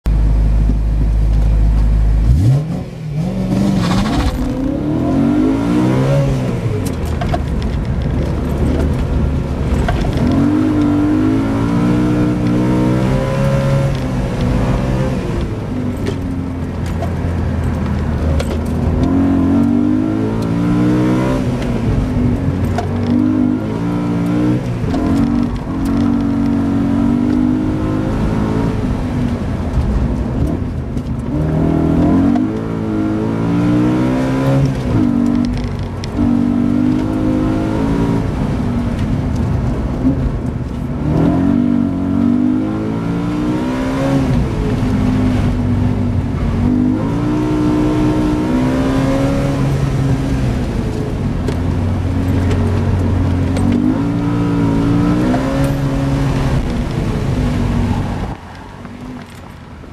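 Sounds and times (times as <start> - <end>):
car engine revving: 1.4 - 59.6.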